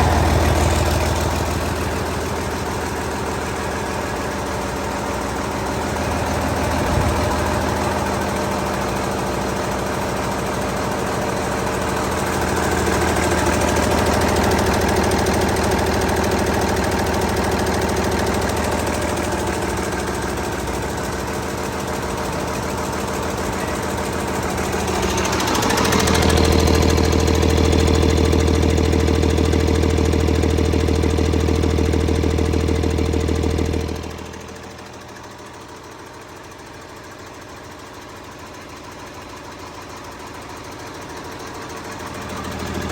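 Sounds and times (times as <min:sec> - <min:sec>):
diesel engine clattering: 0:00.0 - 0:42.9.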